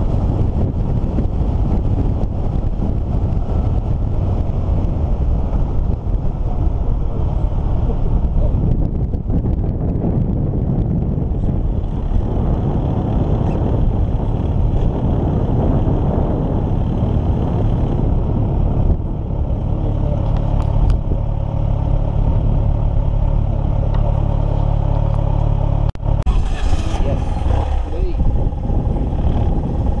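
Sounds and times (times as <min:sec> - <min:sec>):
road noise: 0:00.0 - 0:30.0
vehicle engine: 0:00.0 - 0:30.0.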